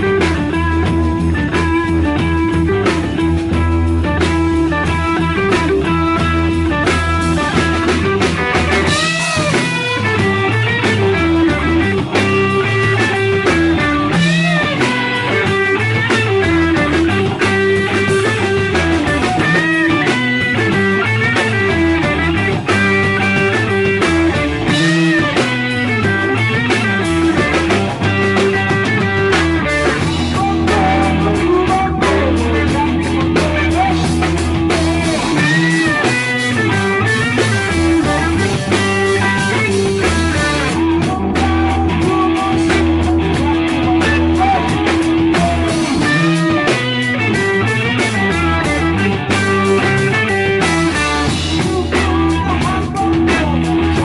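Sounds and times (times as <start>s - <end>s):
bass guitar: 0.0s - 54.0s
drum kit: 0.0s - 54.0s
electric guitar bending notes: 0.0s - 54.0s.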